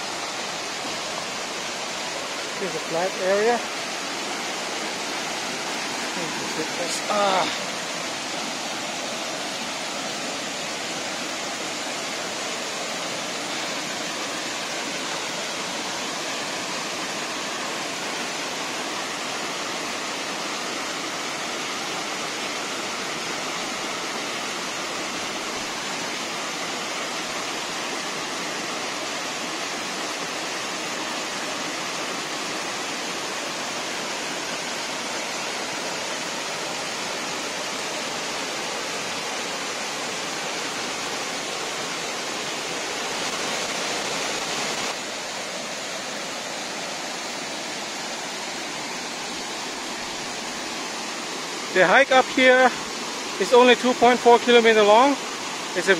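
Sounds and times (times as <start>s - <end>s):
waterfall roaring: 0.0s - 55.9s.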